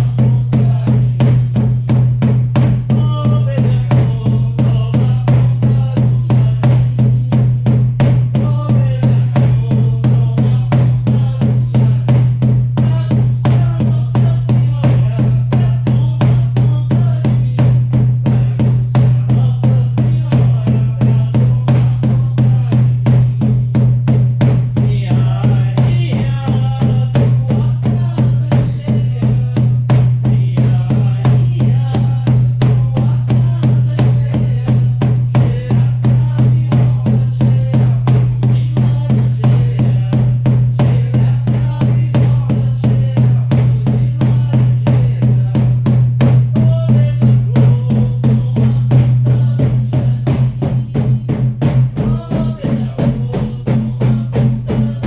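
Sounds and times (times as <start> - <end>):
frame drums beating: 0.0 - 55.0.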